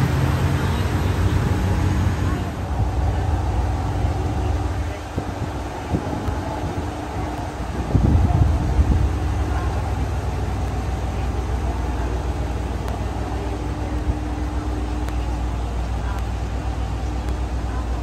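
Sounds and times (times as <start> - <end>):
diesel train engine rumbling: 0.0 - 18.0.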